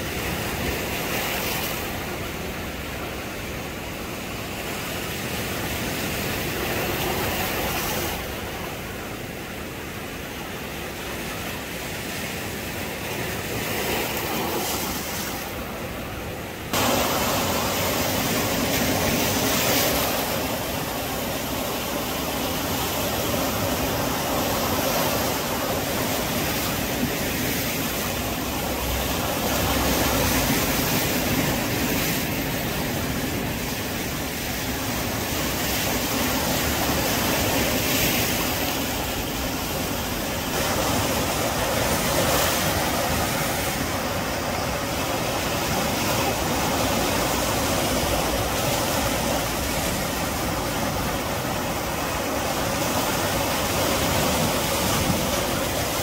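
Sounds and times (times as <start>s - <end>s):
surf breaking on rocks: 10.9s - 56.0s.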